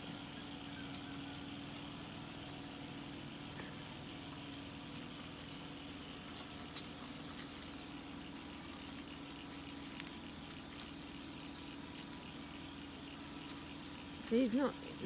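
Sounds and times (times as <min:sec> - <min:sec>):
faint patters and ticks: 0:00.0 - 0:15.0
faint steady hum: 0:00.0 - 0:15.0
floodwater rushing: 0:00.0 - 0:15.0.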